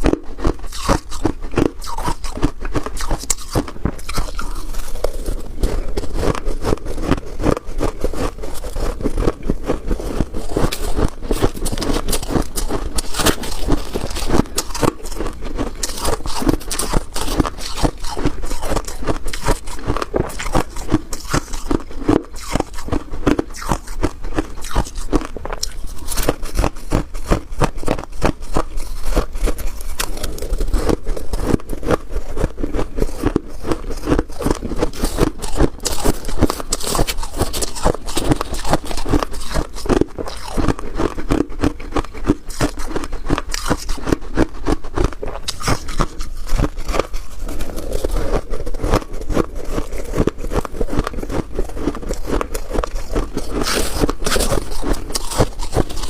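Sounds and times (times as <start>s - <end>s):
frost crunching: 0.0s - 56.0s.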